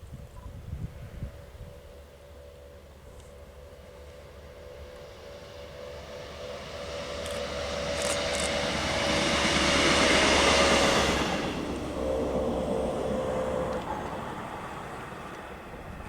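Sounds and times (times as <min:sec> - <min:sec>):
train rushing past: 0:00.8 - 0:16.0.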